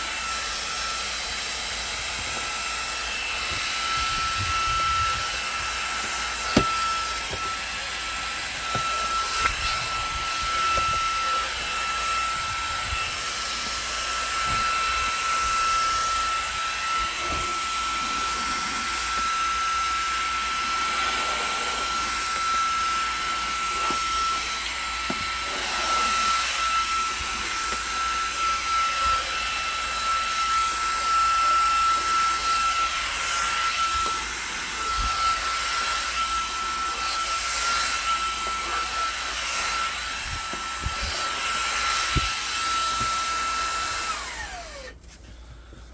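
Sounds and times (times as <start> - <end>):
handheld vacuum cleaner whining: 0.0 - 45.9.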